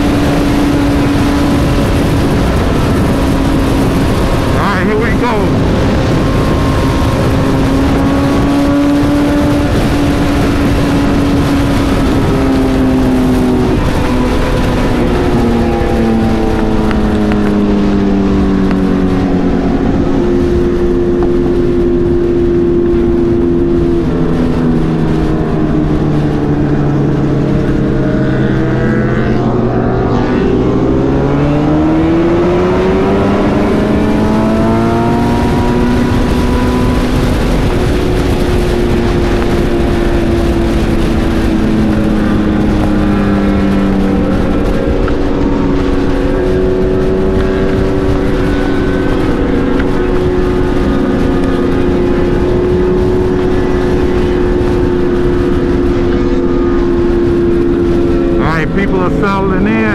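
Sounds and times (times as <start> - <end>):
motorcycle engine: 0.0 - 59.9
wind rush on microphone: 0.0 - 59.9.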